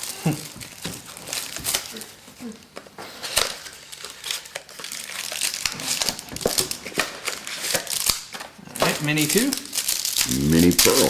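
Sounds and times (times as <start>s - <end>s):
card packaging crinkling: 0.0s - 11.0s.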